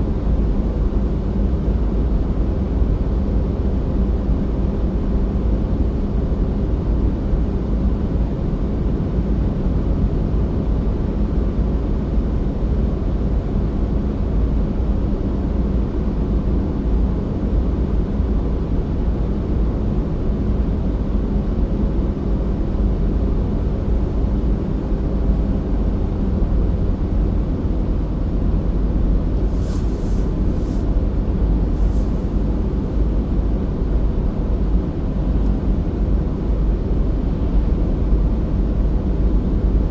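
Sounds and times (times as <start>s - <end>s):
car engine and road noise: 0.0s - 5.1s, 5.7s - 36.9s.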